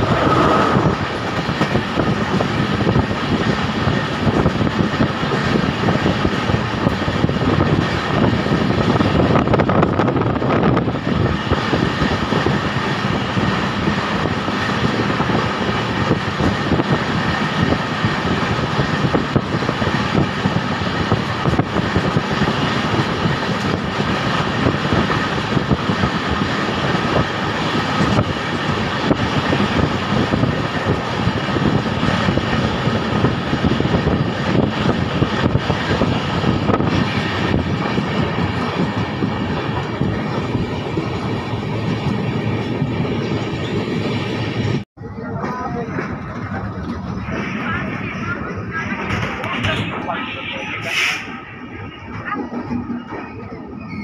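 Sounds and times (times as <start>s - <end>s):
train rumbling and rattling: 0.0s - 54.0s.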